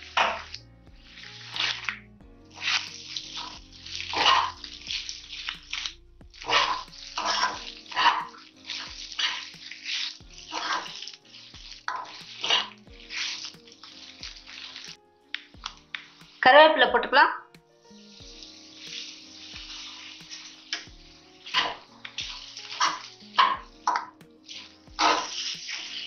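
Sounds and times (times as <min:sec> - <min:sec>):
spatula scraping a pan: 0:00.0 - 0:16.6, 0:17.9 - 0:26.0
food frying: 0:00.0 - 0:16.8, 0:17.9 - 0:26.0
faint background music: 0:00.0 - 0:26.0.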